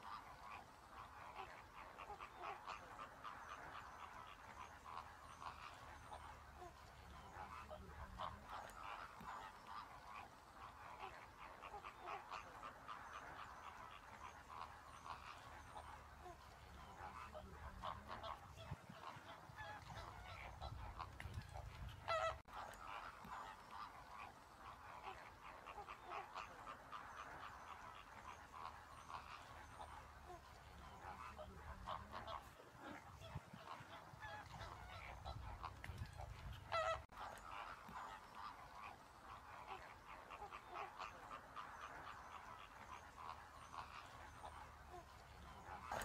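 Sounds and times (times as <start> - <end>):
distant waterbirds calling: 0.0 - 46.0.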